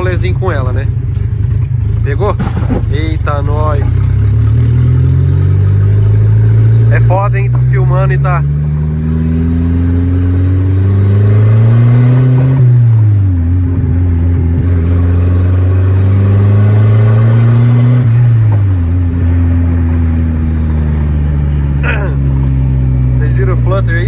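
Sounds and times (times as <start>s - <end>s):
turbocharged engine revving: 0.0s - 24.0s.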